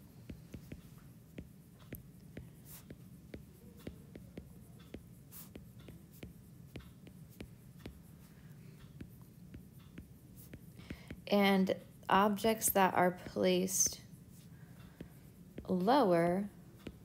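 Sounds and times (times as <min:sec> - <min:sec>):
faint low hum: 0:00.0 - 0:17.0
stylus tapping on tablet screen: 0:00.0 - 0:17.0.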